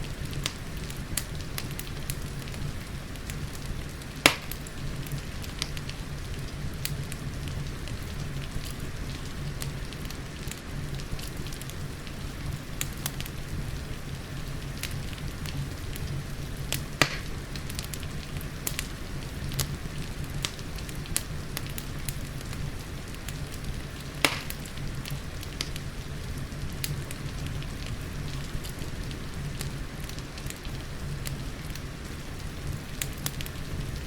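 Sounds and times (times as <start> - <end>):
loud pops of fire: 0.0 - 13.9, 14.6 - 34.0
rain patter: 0.0 - 34.0
wood fire crackling: 0.0 - 34.0.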